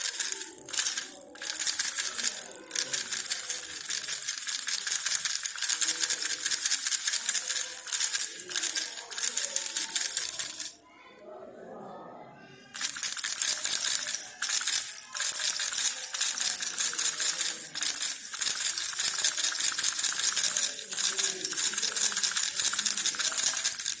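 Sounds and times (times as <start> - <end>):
baby rattle shaken: 0.0 - 10.8, 12.8 - 24.0.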